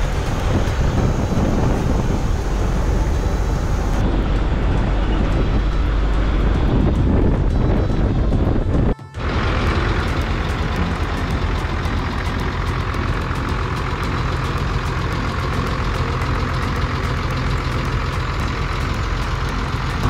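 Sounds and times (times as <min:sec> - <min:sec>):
diesel bus engine idling: 0:00.0 - 0:20.0.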